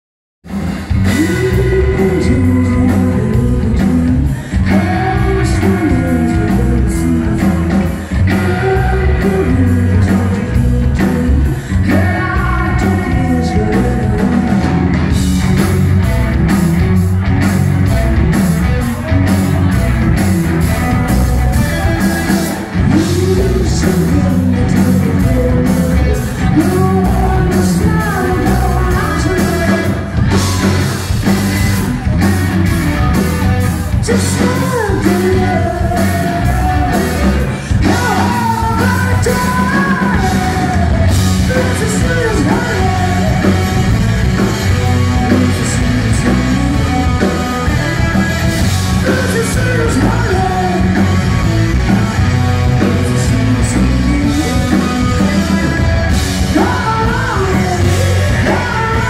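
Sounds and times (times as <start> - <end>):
bass guitar: 0.4 - 59.0
distorted electric guitars: 0.4 - 59.0.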